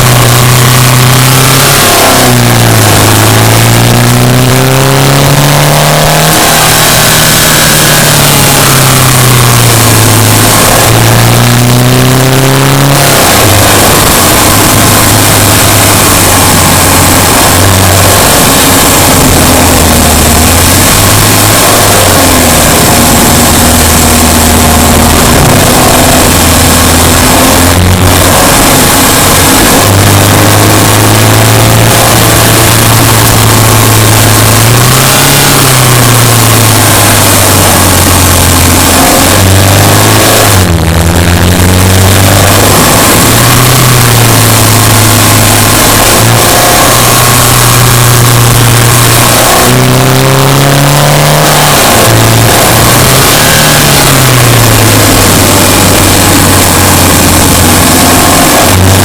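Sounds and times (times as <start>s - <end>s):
car engine revving: 0.0s - 59.0s
steady rushing noise: 0.0s - 59.0s.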